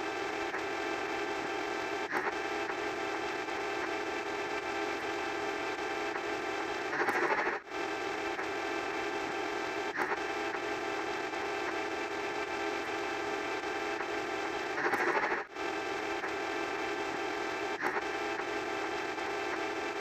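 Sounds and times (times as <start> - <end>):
electronic buzz: 0.0 - 20.0.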